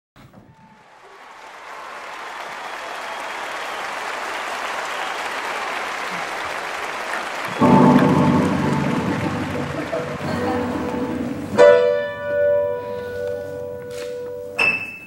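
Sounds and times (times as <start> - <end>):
audience applause: 0.2 - 13.4.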